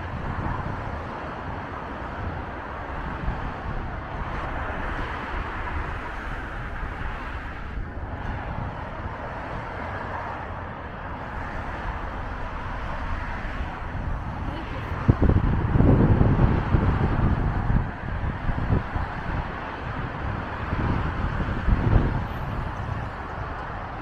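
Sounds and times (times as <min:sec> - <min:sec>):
highway traffic rushing: 0:00.0 - 0:24.0
wind rumbling on microphone: 0:00.0 - 0:24.0.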